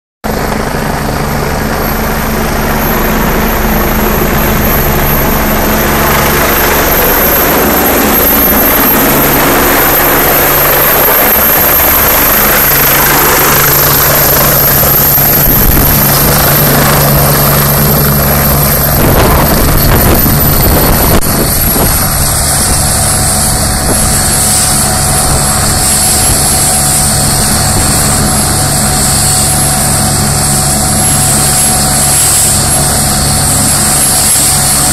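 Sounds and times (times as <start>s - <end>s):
helicopter rotor noise: 0.2s - 34.9s
helicopter turbine whine: 0.2s - 34.9s.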